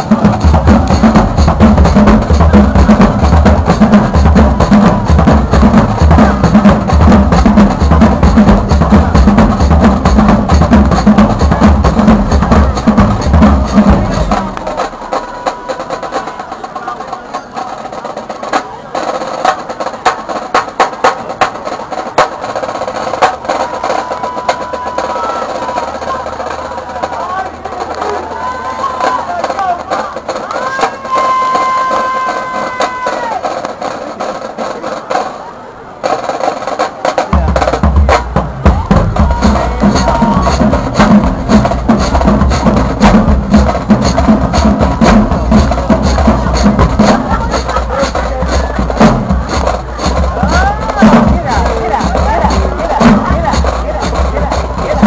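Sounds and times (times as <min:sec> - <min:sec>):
drumline playing: 0:00.0 - 0:55.0.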